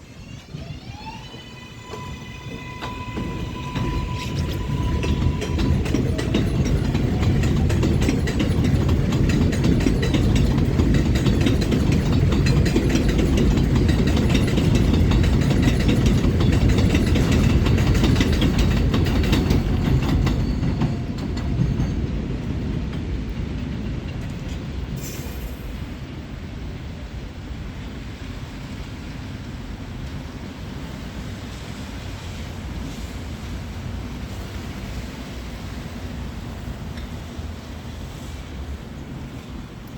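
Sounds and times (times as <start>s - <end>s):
subway train wheels clattering: 0.0s - 39.9s.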